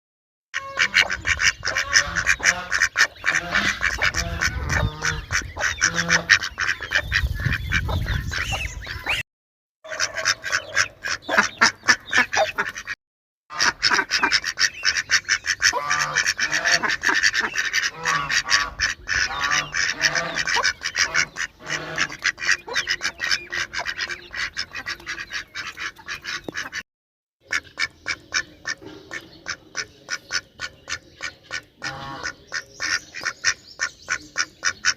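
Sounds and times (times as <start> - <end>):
ducks quacking: 0.6 - 9.2, 9.9 - 26.8, 27.4 - 34.9.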